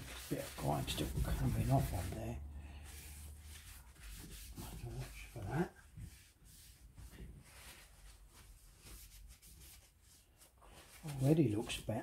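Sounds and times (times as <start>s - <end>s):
paper towel rubbing: 0.0s - 12.0s.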